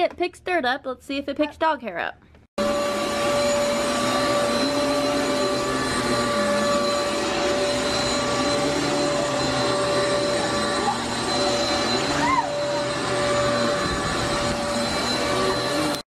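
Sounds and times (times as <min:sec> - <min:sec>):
vacuum cleaner running: 0:02.6 - 0:16.0.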